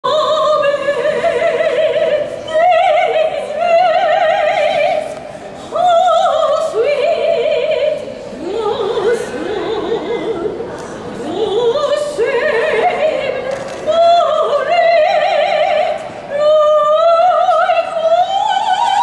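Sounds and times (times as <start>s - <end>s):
soprano singing operatic solo: 0.0s - 10.6s, 11.2s - 19.0s.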